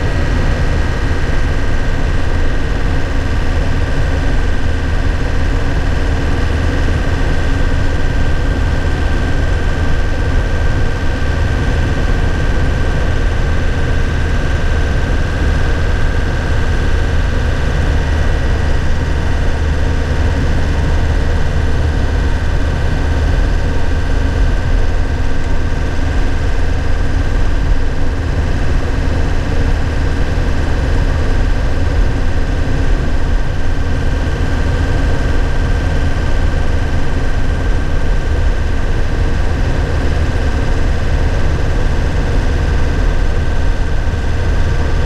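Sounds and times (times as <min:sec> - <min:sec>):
truck engine and road drone: 0:00.0 - 0:45.0.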